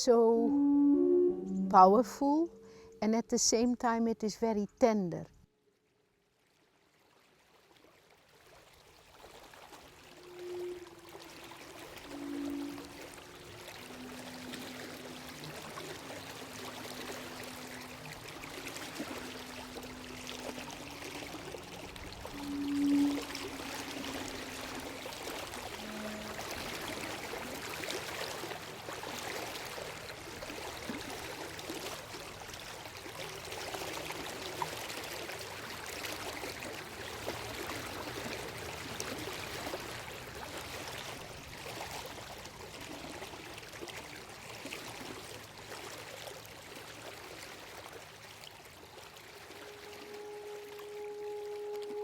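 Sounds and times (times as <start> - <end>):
running water: 6.5 - 52.0.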